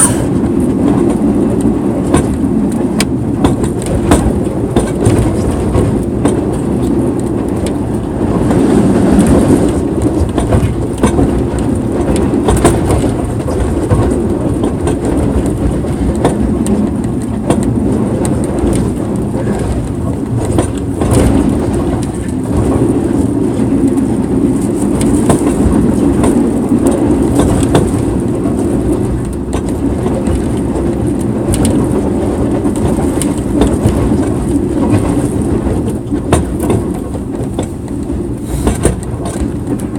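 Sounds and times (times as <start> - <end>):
train rumbling on rails: 0.0 - 39.9
wheels clacking and knocking: 0.0 - 39.9.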